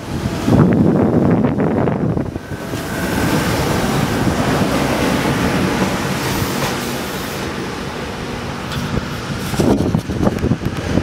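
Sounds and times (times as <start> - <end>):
electric train pulling away: 0.0 - 9.7.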